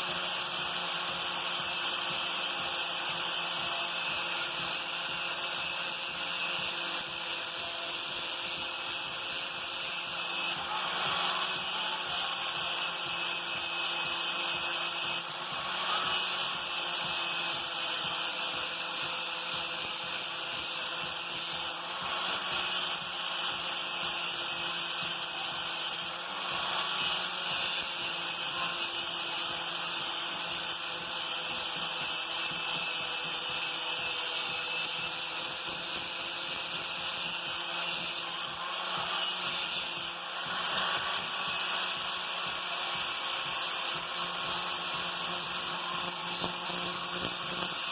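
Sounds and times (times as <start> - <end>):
electric grinder grinding steel: 0.0 - 47.9.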